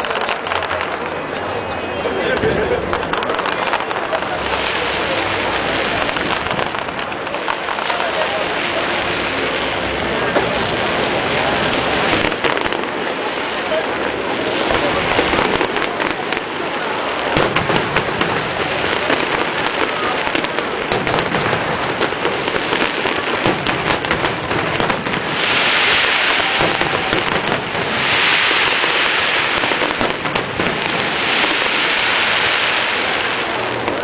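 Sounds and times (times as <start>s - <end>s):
hissing crackle: 0.0s - 1.8s, 2.5s - 34.0s
fireworks bangs: 0.0s - 34.0s
fireworks crackling: 0.0s - 34.0s.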